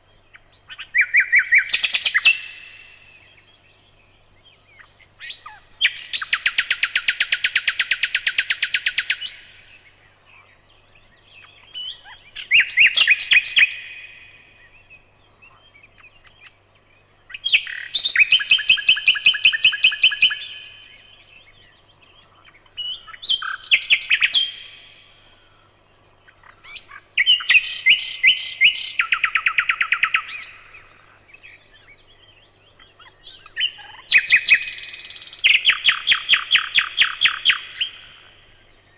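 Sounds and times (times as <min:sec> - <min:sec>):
nightingale singing: 0:00.0 - 0:38.9.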